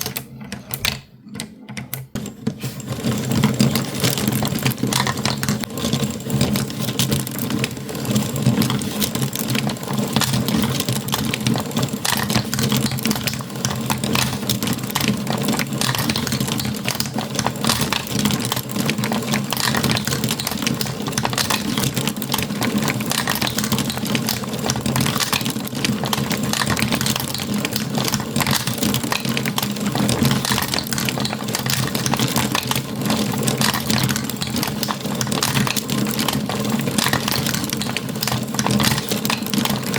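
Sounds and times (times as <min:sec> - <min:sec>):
marbles rattling along marble run: 0:00.0 - 0:39.9.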